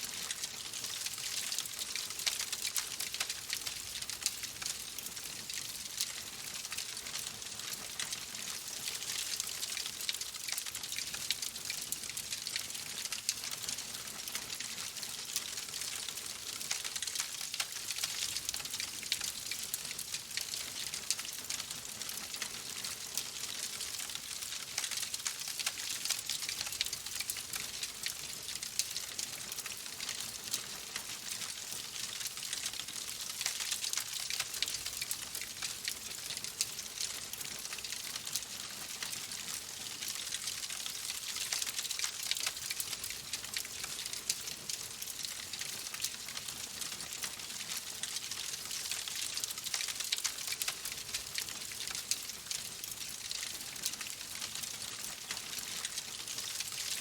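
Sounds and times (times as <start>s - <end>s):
wood fire crackling: 0.0s - 18.6s, 19.2s - 54.0s.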